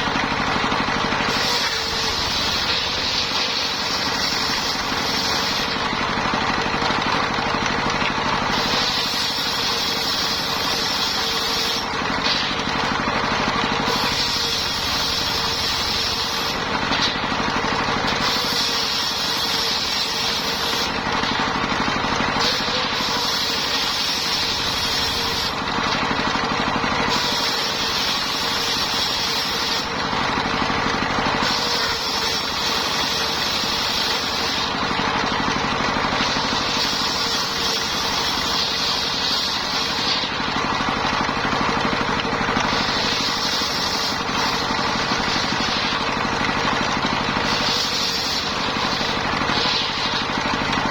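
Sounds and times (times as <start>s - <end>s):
circular saw whine: 0.0s - 6.3s, 8.3s - 50.9s
engine running steadily: 0.0s - 50.9s.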